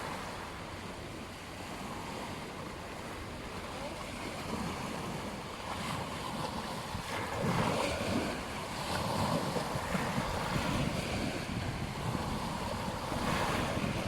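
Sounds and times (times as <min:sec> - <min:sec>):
ocean waves on beach: 0:00.0 - 0:14.0
wind buffeting microphone: 0:00.8 - 0:14.0.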